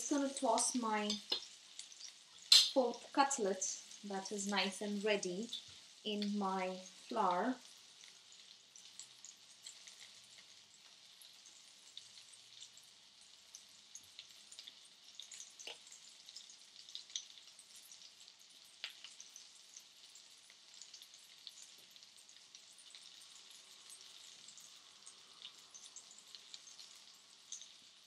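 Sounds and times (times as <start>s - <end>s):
oil sizzling in a pan: 0.0s - 28.0s.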